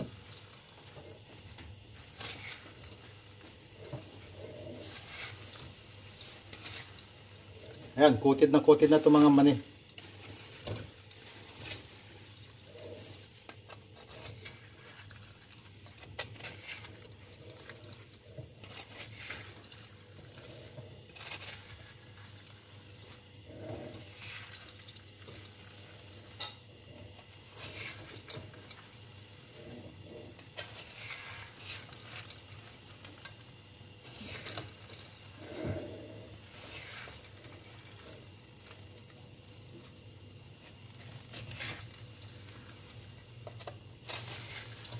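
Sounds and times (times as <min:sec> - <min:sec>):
nuts scraping and rattling in pan: 0:00.0 - 0:39.3, 0:40.6 - 0:44.9.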